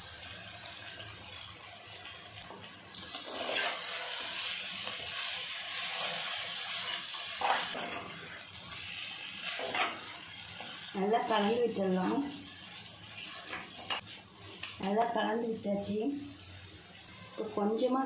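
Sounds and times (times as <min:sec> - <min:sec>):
noodles sizzling in oil: 0:00.0 - 0:18.0.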